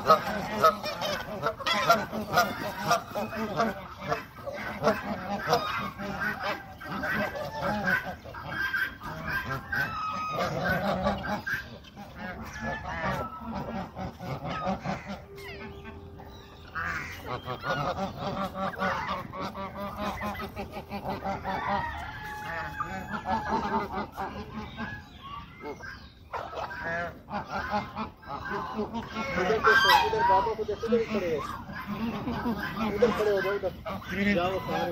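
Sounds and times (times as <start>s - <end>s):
peafowl calling: 0.0s - 34.9s.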